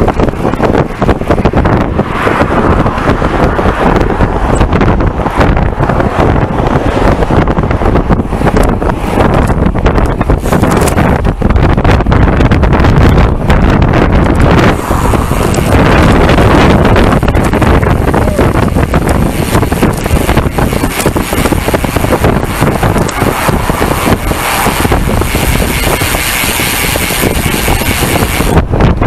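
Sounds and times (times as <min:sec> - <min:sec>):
road traffic passing: 0:00.0 - 0:29.0
wind buffeting microphone: 0:00.0 - 0:29.0.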